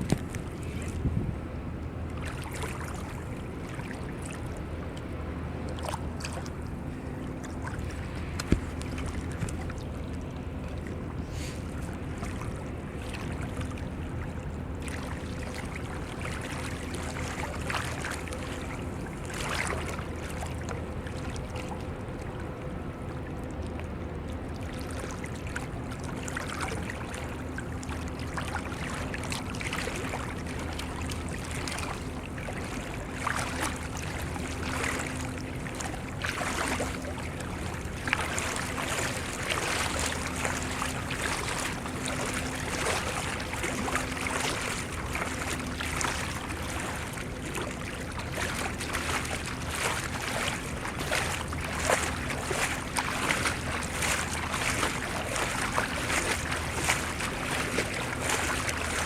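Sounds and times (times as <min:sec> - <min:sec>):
low motor hum: 0:00.0 - 0:59.0
water noise: 0:00.0 - 0:59.0
wind: 0:00.0 - 0:59.0.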